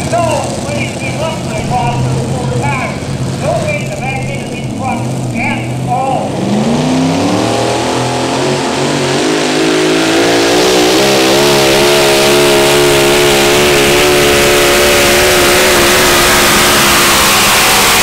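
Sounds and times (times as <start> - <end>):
truck engine at full throttle: 0.0 - 18.0.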